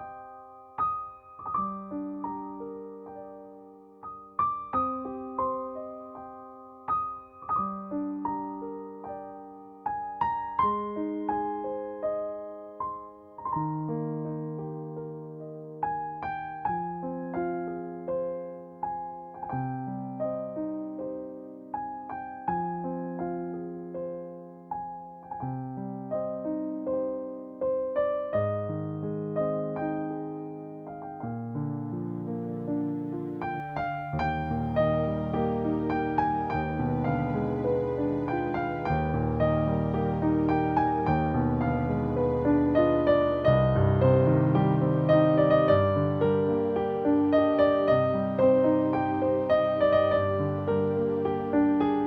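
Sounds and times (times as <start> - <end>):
gentle piano piece: 0.0 - 52.0.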